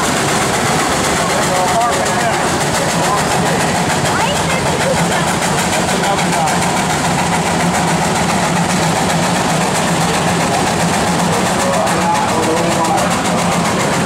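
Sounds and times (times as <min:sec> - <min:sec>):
steam engine exhaust chuffs: 0:00.0 - 0:14.0.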